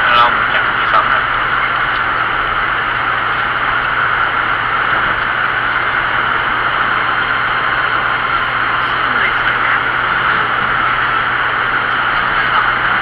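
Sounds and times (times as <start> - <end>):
constant low hum: 0.0 - 13.0
road and wind noise: 0.0 - 13.0.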